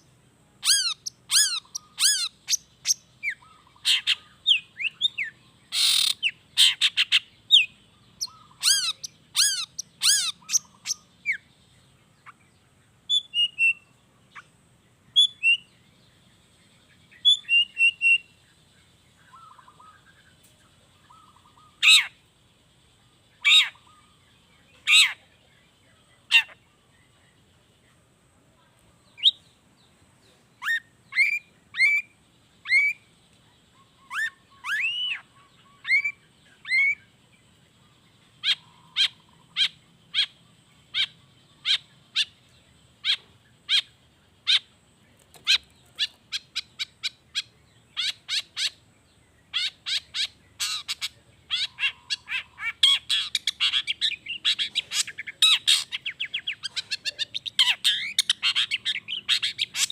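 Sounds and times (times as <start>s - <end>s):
shrike singing: 0.0s - 27.9s, 29.0s - 59.9s.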